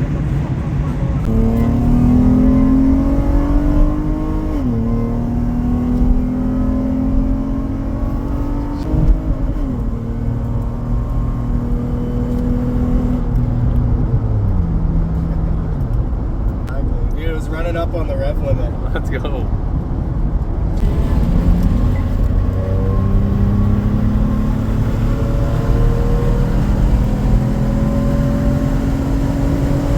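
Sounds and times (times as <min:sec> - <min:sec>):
car engine accelerating hard: 0:00.0 - 0:19.3, 0:20.7 - 0:29.9.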